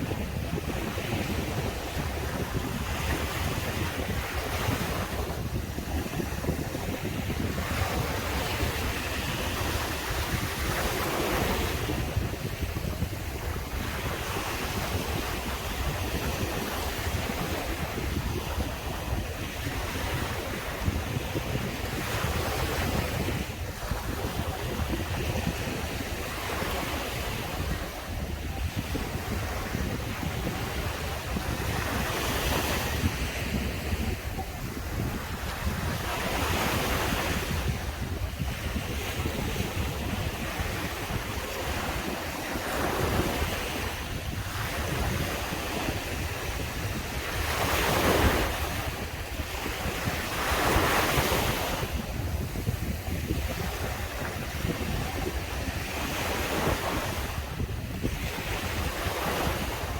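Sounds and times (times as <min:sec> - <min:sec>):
surf breaking on a beach: 0:00.0 - 0:59.9
wind rumble on microphone: 0:00.0 - 0:59.9.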